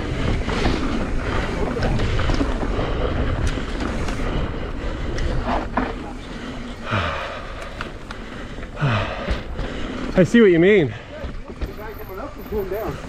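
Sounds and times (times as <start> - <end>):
bike clicks and knocks: 0.0 - 13.0
bike tyres rolling over dirt: 0.0 - 13.0
wind buffeting microphone: 0.0 - 13.0.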